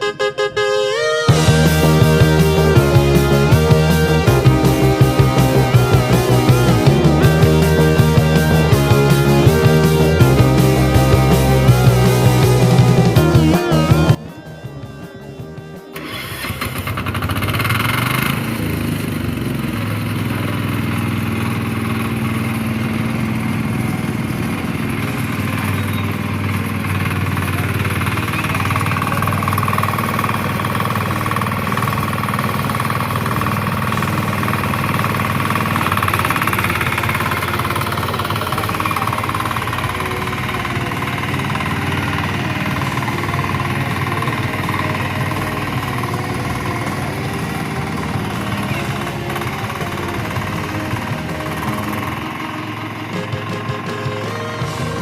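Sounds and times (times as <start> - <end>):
power weeder engine running: 1.3 - 55.0.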